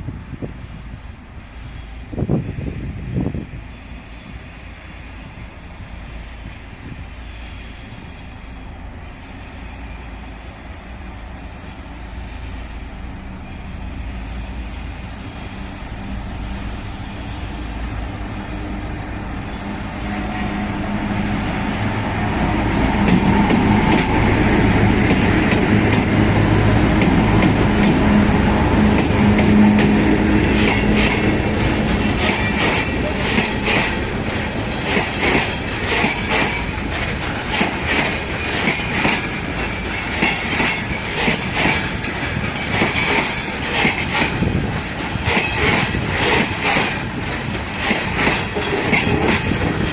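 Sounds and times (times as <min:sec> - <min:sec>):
locomotive hum: 0:00.0 - 0:49.9.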